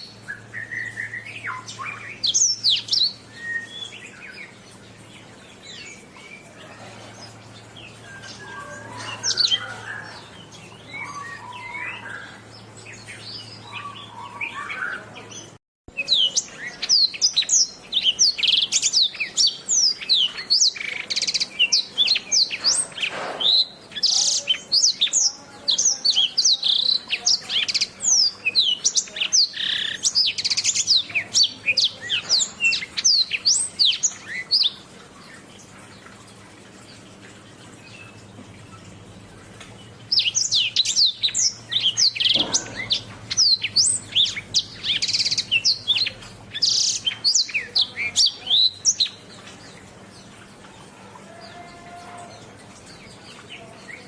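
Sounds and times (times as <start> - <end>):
canary singing: 0.0 - 35.9, 36.8 - 54.0.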